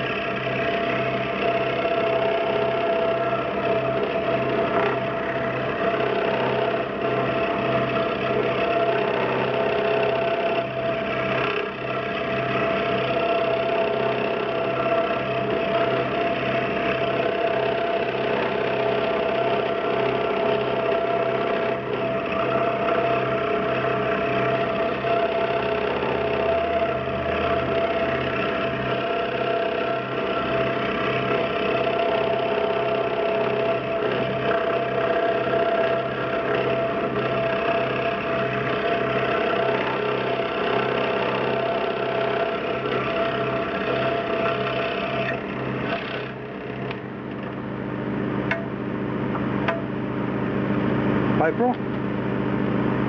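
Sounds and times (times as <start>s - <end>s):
scroll saw cutting wood: 0.0s - 47.1s.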